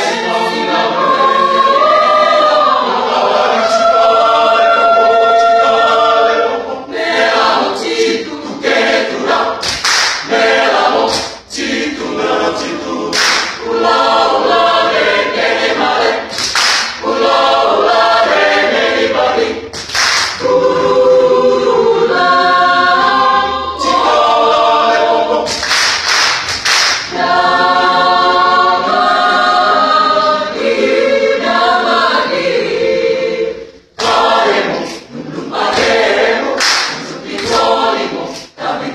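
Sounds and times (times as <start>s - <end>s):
choir singing a cappella: 0.0s - 38.9s.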